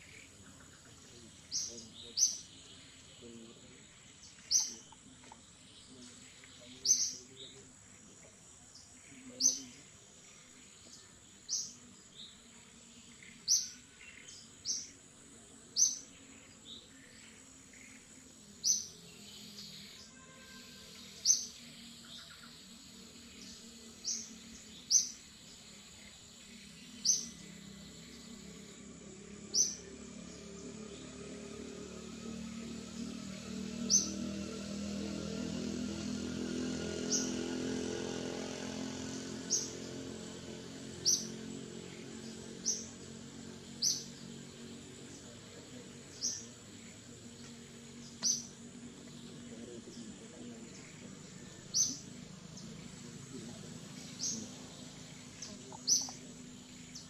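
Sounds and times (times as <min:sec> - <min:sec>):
bird chirping: 0:00.0 - 0:57.0
faint high whine: 0:00.0 - 0:57.0.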